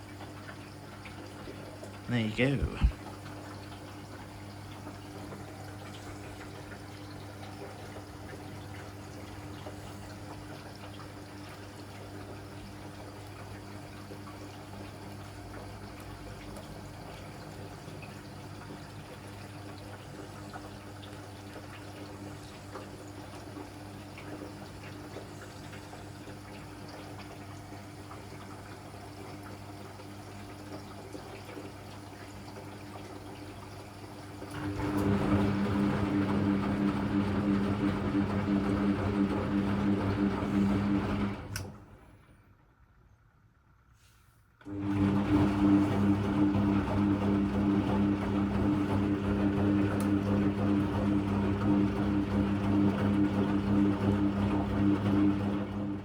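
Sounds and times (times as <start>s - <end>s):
water sloshing in washing machine: 0.0s - 42.5s, 44.6s - 56.0s.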